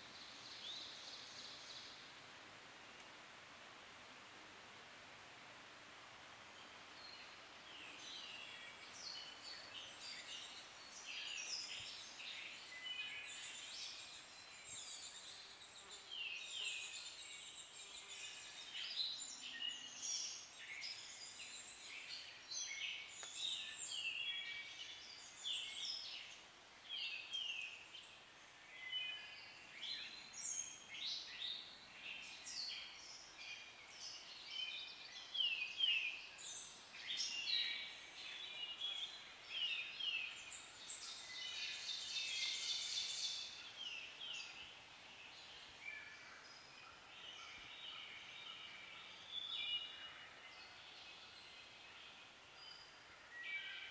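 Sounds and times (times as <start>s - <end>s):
songbirds singing: 0.0s - 2.4s, 6.0s - 53.9s
faint steady hiss: 0.0s - 53.9s.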